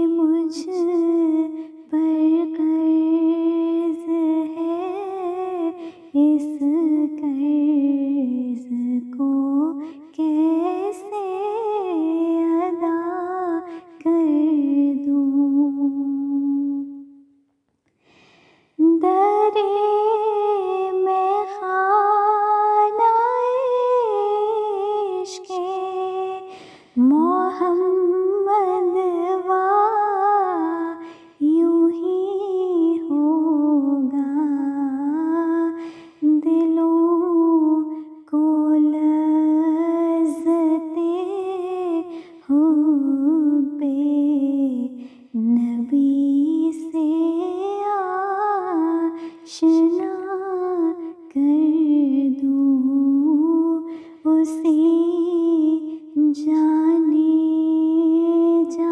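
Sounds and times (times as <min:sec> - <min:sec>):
woman singing unaccompanied: 0:00.0 - 0:17.2, 0:18.8 - 0:58.9.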